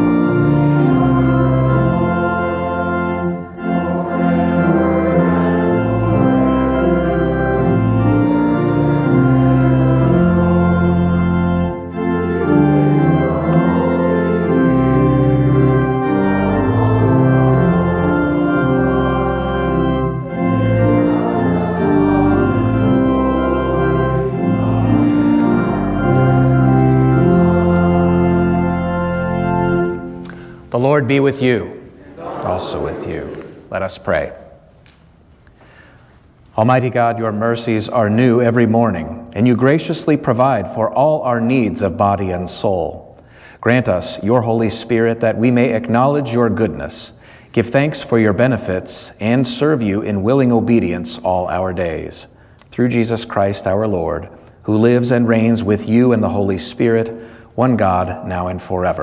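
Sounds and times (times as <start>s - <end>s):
church organ playing a hymn: 0.0s - 59.0s.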